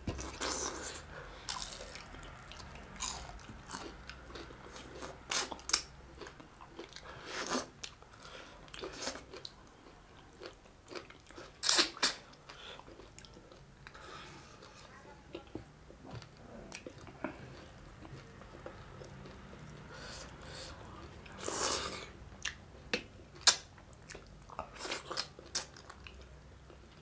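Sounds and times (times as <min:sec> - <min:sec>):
chewing crisp fried fish: 0:00.2 - 0:14.0, 0:16.2 - 0:27.0.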